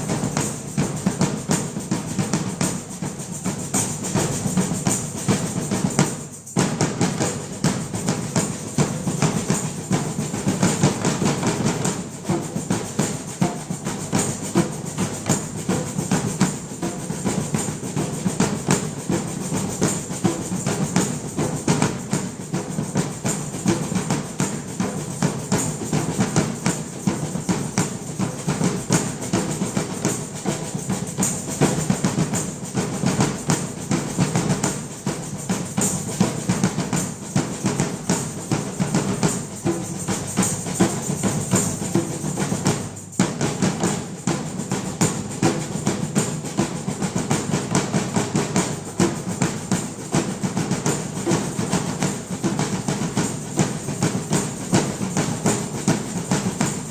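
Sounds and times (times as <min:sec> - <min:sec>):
drum ensemble playing fast rhythm: 0:00.0 - 0:56.9.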